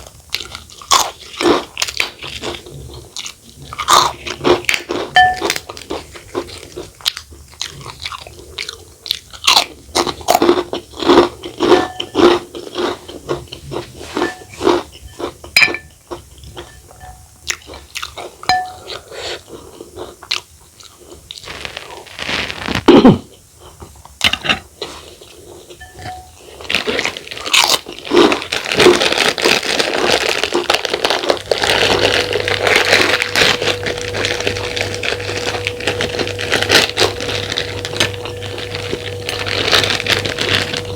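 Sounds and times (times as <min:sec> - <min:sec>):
chewing crunchy food: 0:00.0 - 0:40.9
faint steady hum: 0:00.0 - 0:40.9.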